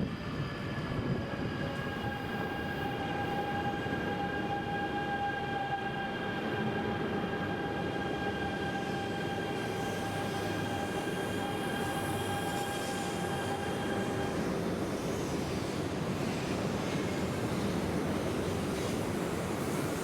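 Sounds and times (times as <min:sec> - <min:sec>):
high-pitched train whine: 0:00.0 - 0:20.0.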